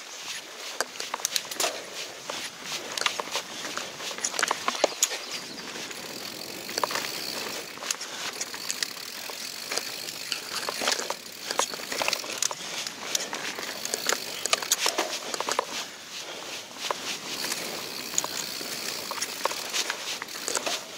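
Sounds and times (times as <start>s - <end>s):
bike clicking and rattling: 0.0s - 20.9s
bike tyres crunching over dirt: 0.0s - 20.9s.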